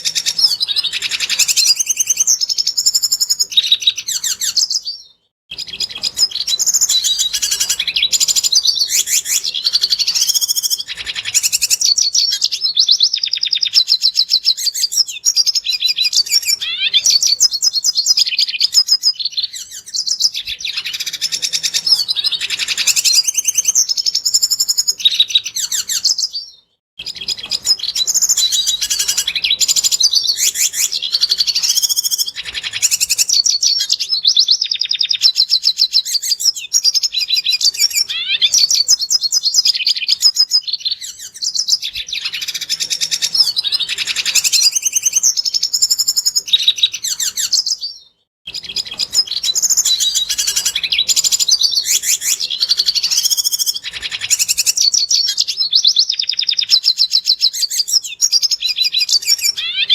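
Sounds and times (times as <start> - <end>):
bird twittering and trilling: 0.0 - 59.9.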